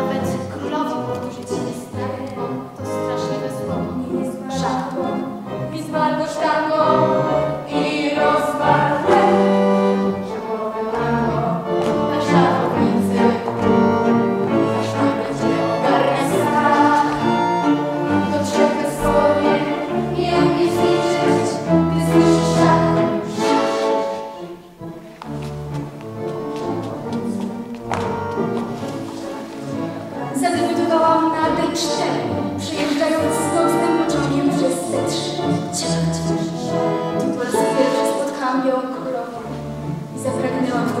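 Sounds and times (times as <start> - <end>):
cello viola and keyboard: 0.0 - 41.0
vocal ensemble singing tango song: 0.0 - 41.0.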